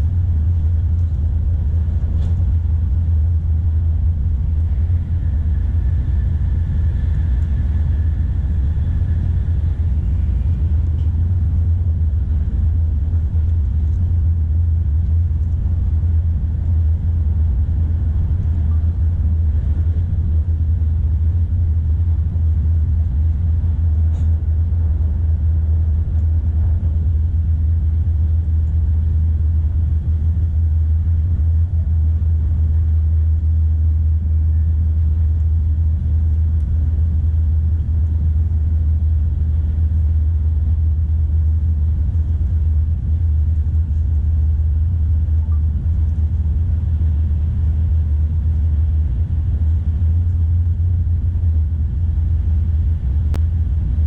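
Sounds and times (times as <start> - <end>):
train cabin low rumble: 0.0 - 54.0.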